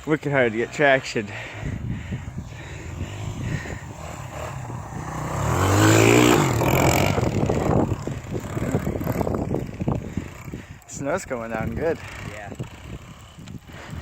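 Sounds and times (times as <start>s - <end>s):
dirt bike engine revving: 0.2s - 14.0s.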